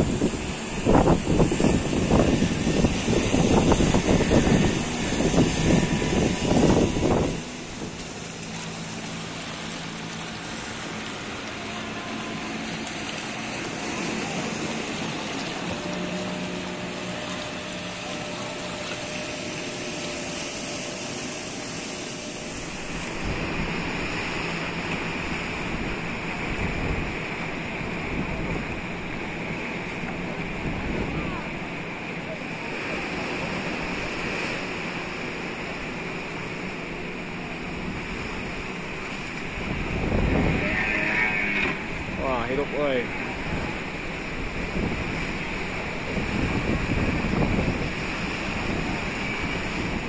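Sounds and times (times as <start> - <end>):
faint boat engine hum: 0.0 - 50.0
sea water splashing against rocks: 0.0 - 50.0.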